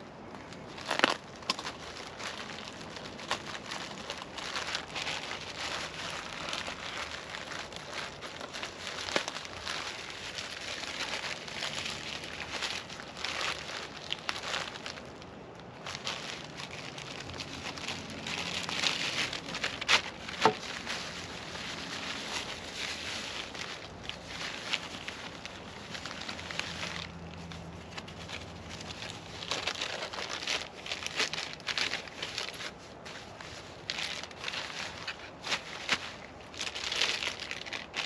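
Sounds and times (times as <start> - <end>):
packaging crinkling and rustling: 0.0 - 38.0.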